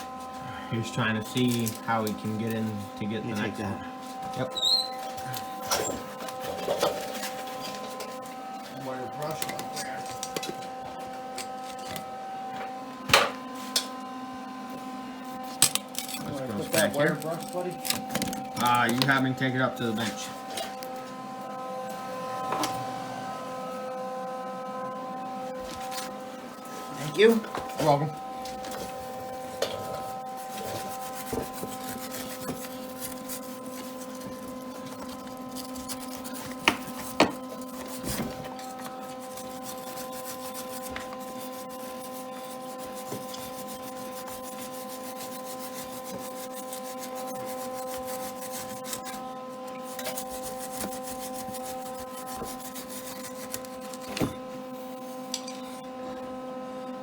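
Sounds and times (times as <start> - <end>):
welding hum and crackle: 0.0 - 14.1, 14.7 - 23.7, 25.0 - 56.5.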